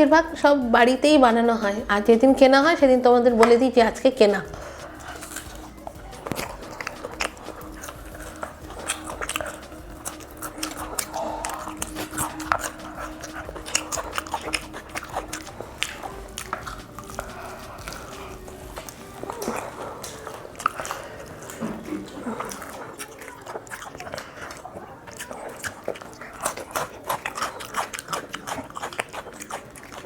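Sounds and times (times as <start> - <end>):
crunchy chewing of fried chicken: 3.4 - 30.0.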